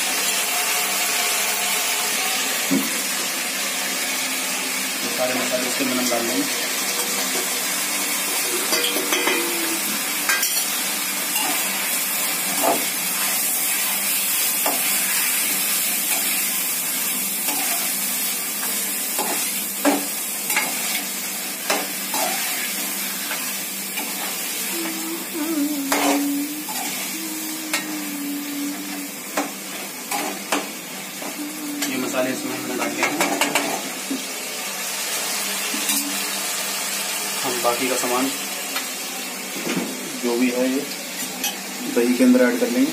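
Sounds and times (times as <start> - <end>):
chicken sizzling in a pan: 0.0 - 42.9.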